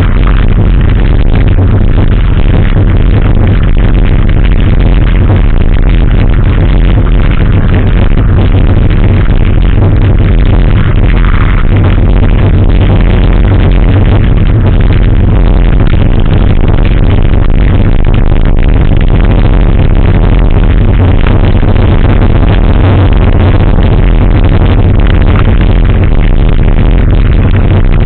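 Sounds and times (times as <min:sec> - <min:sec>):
electronic dance music: 0:00.0 - 0:28.0.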